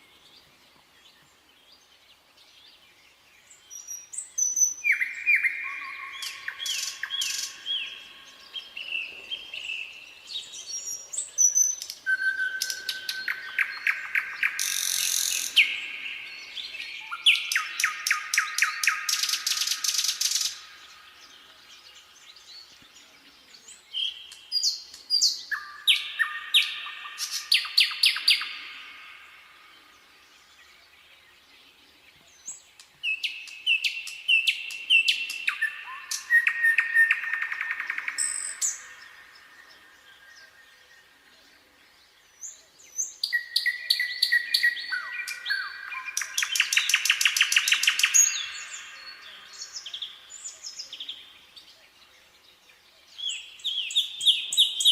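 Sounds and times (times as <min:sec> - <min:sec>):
nightingale singing trills: 0:00.0 - 0:54.9.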